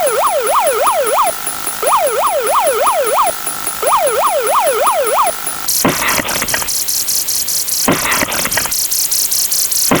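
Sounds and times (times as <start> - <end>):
electronic rattling buzz: 0.0 - 10.0.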